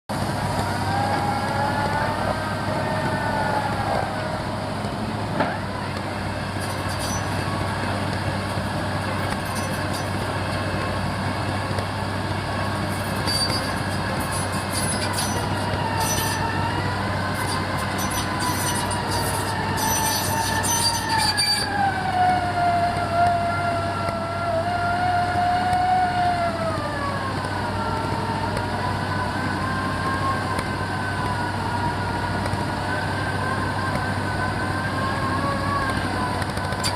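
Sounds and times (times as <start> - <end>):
drilling rig engine drone: 0.1 - 36.9.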